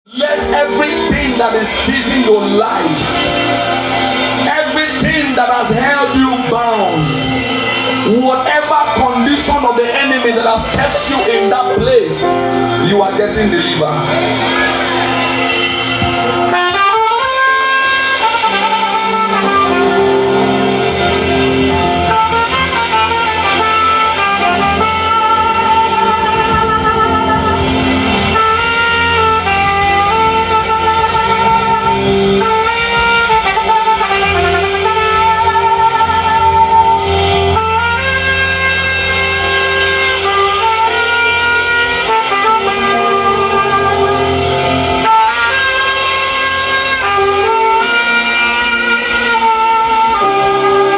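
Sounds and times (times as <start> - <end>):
saxophone slow melody: 0.1 - 9.6, 10.6 - 50.9
held chordal accompaniment: 0.2 - 50.9.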